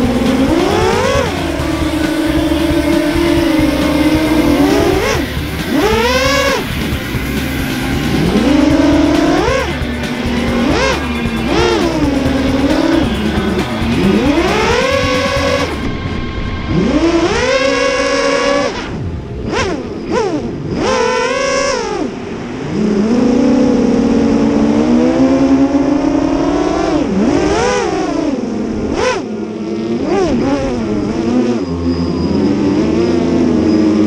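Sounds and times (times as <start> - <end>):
quadcopter motors whining: 0.0 - 34.0.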